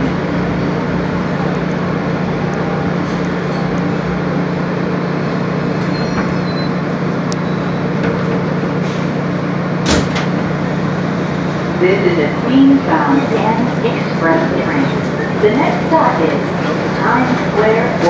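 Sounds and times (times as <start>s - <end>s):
subway car rumble and hum: 0.0s - 18.0s.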